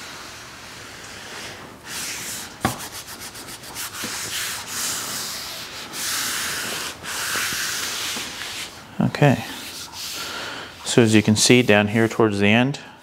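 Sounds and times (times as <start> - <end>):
hands rubbing leather: 1.5 - 12.4.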